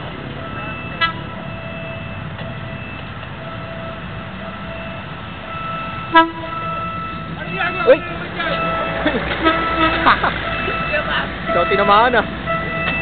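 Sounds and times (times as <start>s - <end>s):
train engine and running noise: 0.0s - 13.0s.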